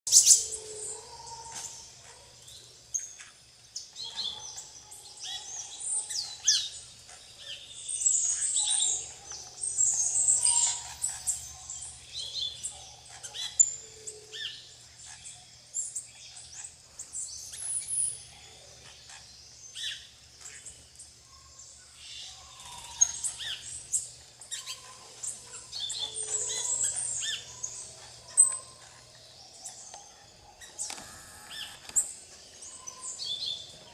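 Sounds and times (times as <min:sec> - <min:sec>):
parakeets chirping: 0:04.0 - 0:20.8, 0:22.1 - 0:33.9.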